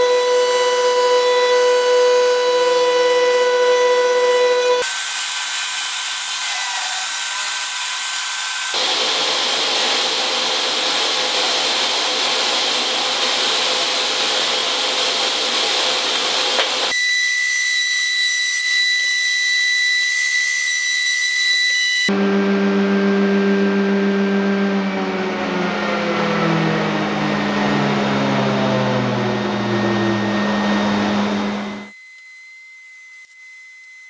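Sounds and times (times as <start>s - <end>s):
loud dense cutting noise: 0.0s - 17.4s, 22.0s - 32.0s
router spinning with high whine: 0.0s - 34.0s
table saw running: 0.0s - 34.0s.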